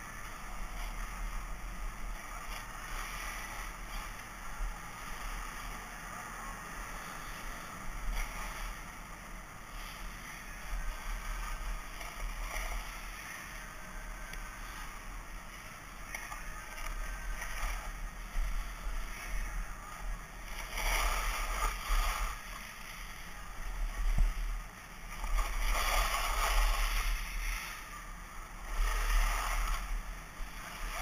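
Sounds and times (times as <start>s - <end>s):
skis scraping over snow: 0.0s - 31.0s
wind rumble on microphone: 0.0s - 31.0s.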